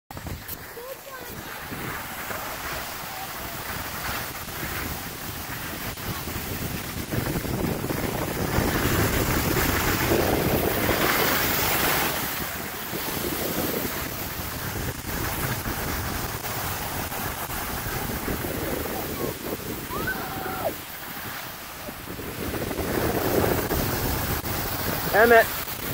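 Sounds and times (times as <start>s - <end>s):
wind buffeting microphone: 0.1s - 25.9s
skis hissing over snow: 0.2s - 25.9s.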